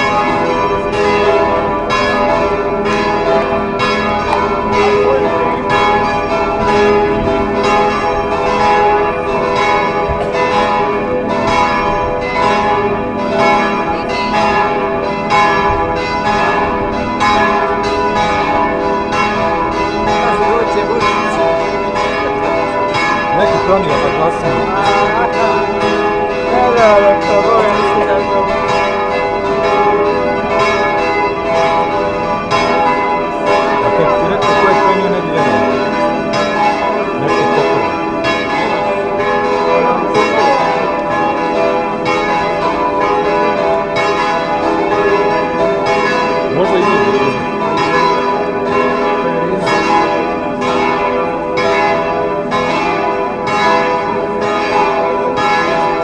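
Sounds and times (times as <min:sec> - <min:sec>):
church bells ringing a peal: 0:00.0 - 0:56.0.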